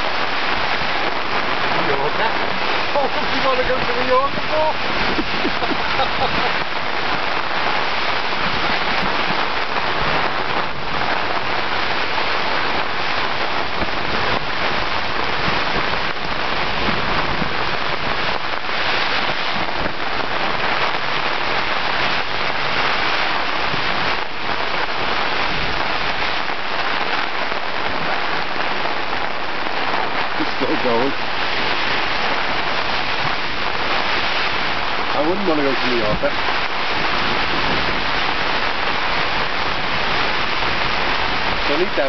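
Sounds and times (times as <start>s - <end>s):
heavy rain and wind on a tent: 0.0s - 42.0s.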